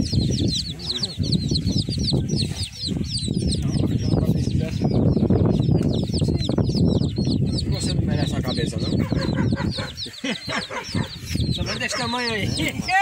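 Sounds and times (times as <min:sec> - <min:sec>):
chickens peeping: 0:00.0 - 0:13.0.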